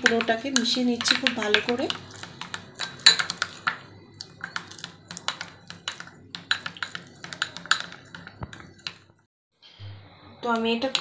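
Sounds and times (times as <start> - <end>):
spatula tapping ceramic bowl: 0.0 - 9.0.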